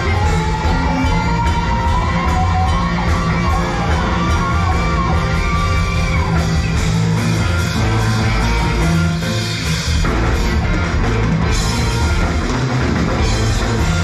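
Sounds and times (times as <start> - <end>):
bending lead guitar melody: 0.0 - 14.0
live rock band playing: 0.0 - 14.0.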